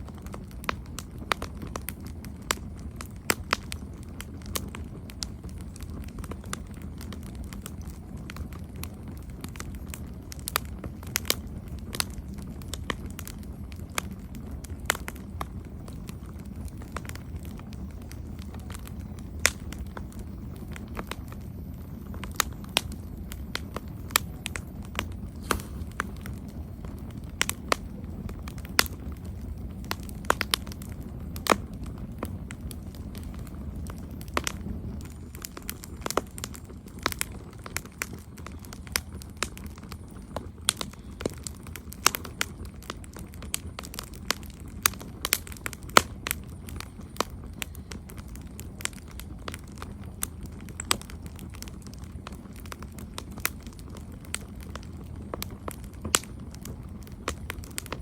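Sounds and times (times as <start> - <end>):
burning wood crackling and popping: 0.0 - 58.0
campfire flames rumbling: 0.0 - 58.0.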